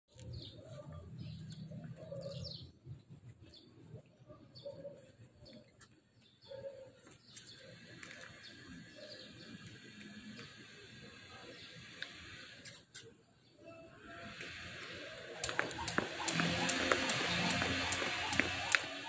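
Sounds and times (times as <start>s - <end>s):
faint birds calling: 3.4s - 19.0s.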